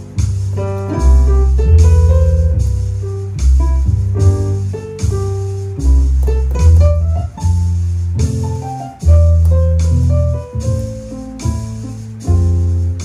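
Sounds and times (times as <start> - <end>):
jazz piano chords: 0.0 - 13.0
low bass line: 0.0 - 13.0.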